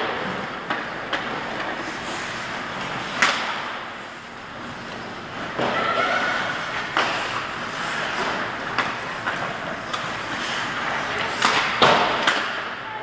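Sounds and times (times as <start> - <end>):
skates scraping on ice: 0.0 - 12.8
sticks and puck clacking: 0.0 - 13.0.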